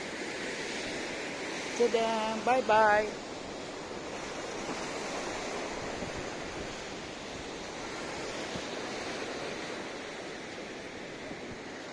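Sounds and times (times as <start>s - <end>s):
ocean waves breaking on beach: 0.0s - 11.9s.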